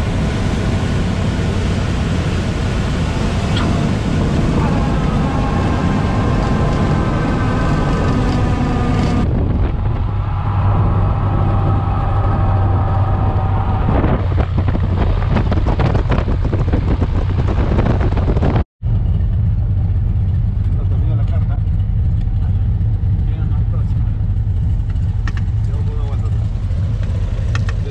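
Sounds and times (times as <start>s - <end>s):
light aircraft engine droning: 0.0s - 27.9s.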